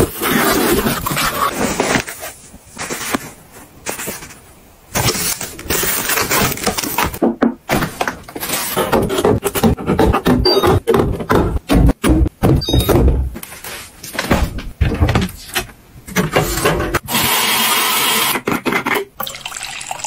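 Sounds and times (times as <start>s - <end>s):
items clicking and knocking: 0.9s - 17.0s.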